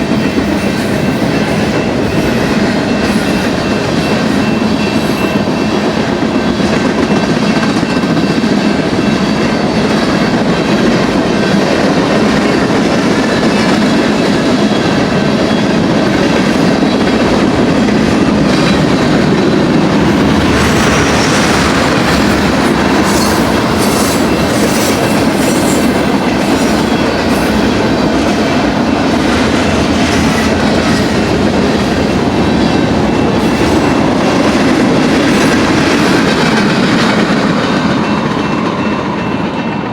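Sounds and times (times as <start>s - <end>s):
freight train wheels rumbling: 0.0s - 39.9s
high ringing from wheels: 0.2s - 39.9s.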